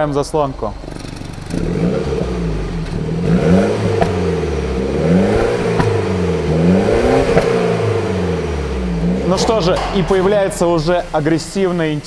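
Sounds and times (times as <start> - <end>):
car engine revving: 0.8 - 12.0
exhaust pops: 0.8 - 12.0.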